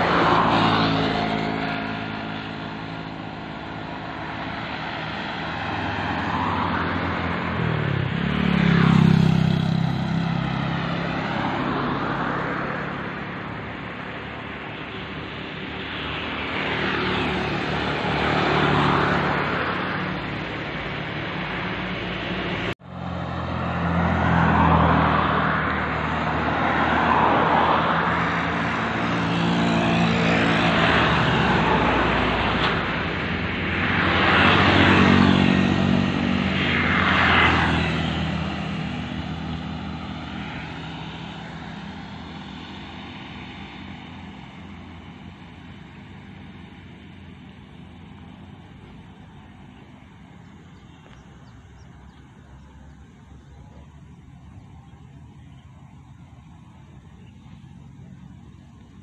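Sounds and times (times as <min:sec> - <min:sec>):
road vehicles passing: 0:00.0 - 0:59.0.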